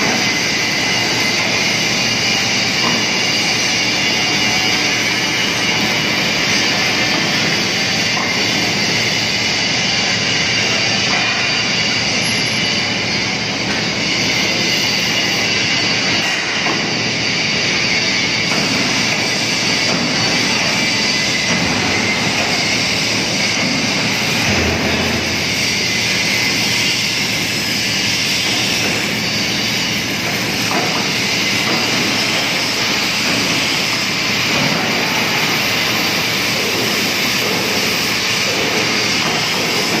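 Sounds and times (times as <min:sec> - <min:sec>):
machinery hiss and rumble: 0:00.0 - 0:40.0.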